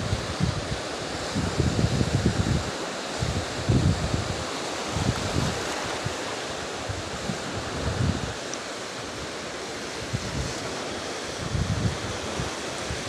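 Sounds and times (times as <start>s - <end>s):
sea surf washing at shore: 0.0s - 13.0s
wind buffeting microphone: 0.0s - 13.0s.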